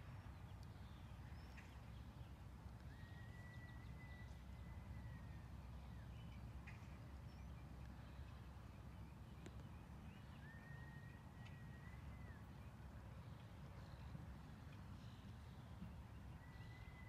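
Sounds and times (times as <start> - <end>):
faint outdoor rumble: 0.0 - 17.0.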